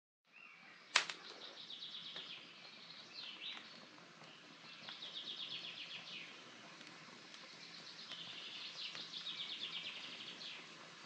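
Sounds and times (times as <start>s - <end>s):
songbird singing: 0.3s - 11.0s
campfire crackling: 0.7s - 11.0s.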